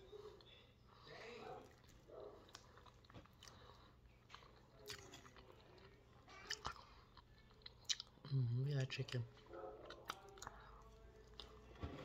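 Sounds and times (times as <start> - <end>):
wet chewing and mouth clicks: 1.6 - 11.6.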